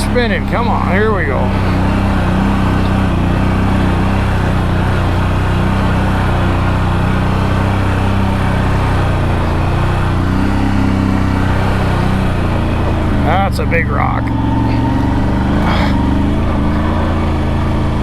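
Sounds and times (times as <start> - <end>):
atv engine running under load: 0.0 - 18.0.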